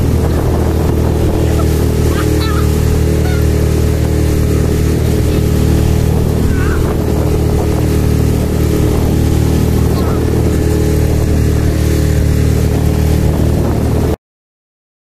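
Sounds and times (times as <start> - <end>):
choppy water: 0.0 - 14.2
outboard motor droning: 0.0 - 14.2
wind: 0.0 - 14.2.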